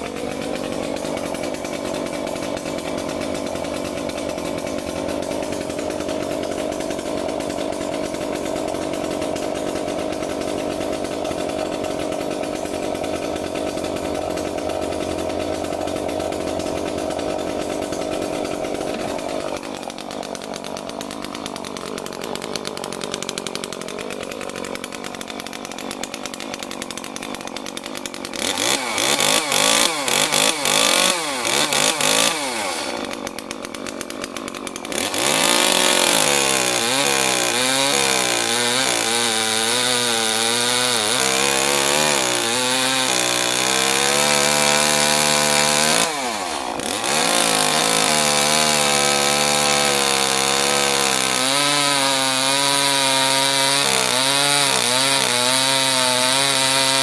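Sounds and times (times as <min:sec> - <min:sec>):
chainsaw revving and cutting log: 0:00.0 - 0:57.0.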